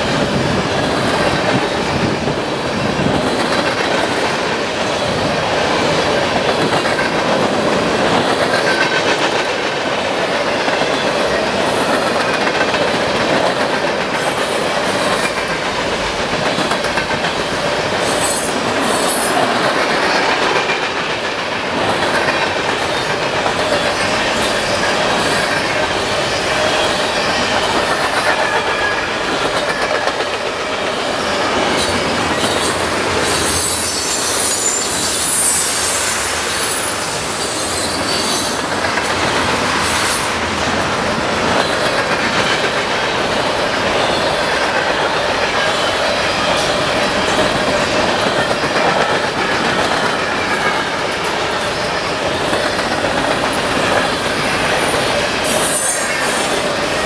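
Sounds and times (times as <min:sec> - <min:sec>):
clickety-clack at rail joints: 0:00.0 - 0:57.0
freight train wheels on rail: 0:00.0 - 0:57.0.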